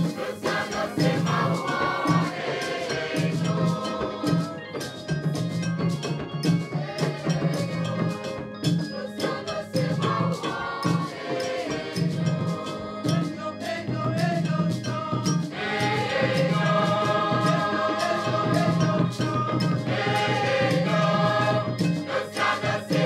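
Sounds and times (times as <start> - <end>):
choir singing in harmony: 0.0 - 23.0
steady percussion beat: 0.0 - 23.0.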